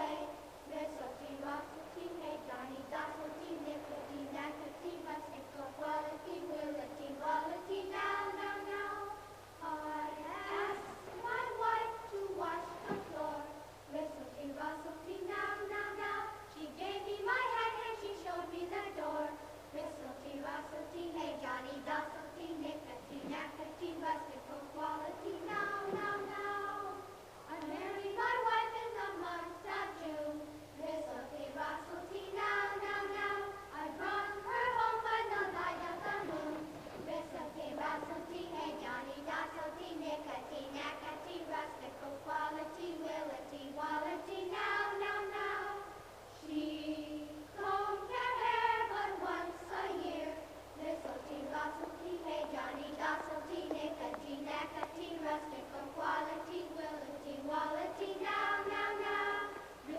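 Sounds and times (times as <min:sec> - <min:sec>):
children singing in unison: 0:00.0 - 0:59.9.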